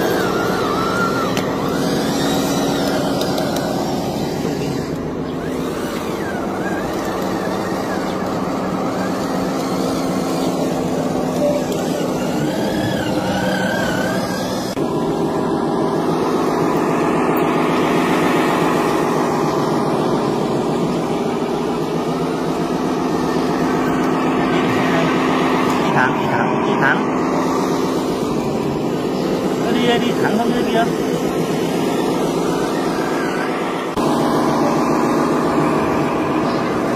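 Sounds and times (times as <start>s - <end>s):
model truck motor drone: 0.0s - 36.9s.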